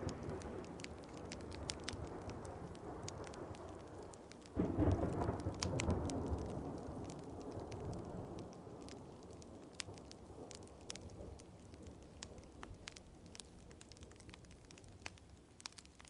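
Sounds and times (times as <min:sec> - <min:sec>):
thunder rumbling: 0:00.0 - 0:15.2
steady rain: 0:00.0 - 0:16.0
wood fire crackling: 0:00.0 - 0:16.0.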